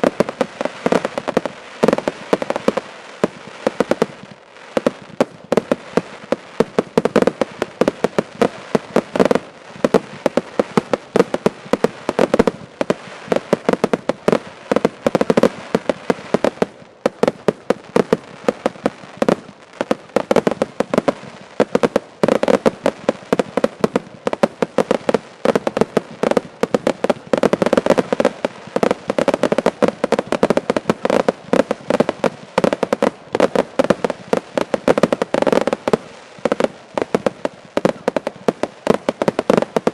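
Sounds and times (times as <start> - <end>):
fireworks barrage: 0.0 - 39.9.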